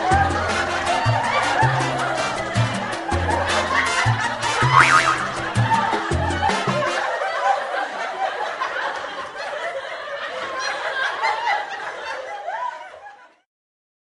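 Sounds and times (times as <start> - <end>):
crowd laughing: 0.0 - 13.5.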